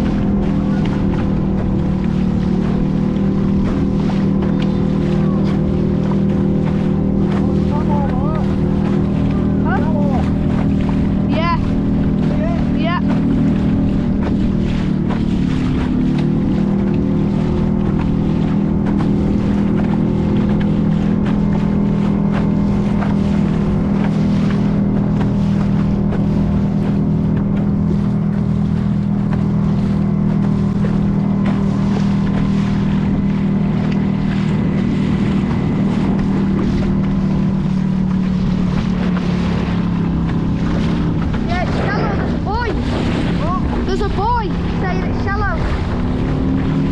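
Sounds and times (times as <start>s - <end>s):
motorboat engine humming: 0.0s - 46.9s
water rushing past hull: 0.0s - 46.9s
wind on microphone: 0.0s - 46.9s.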